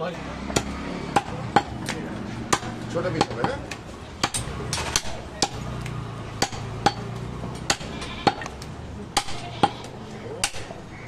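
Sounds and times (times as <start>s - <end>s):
cleaver chopping meat and bone: 0.4s - 10.8s.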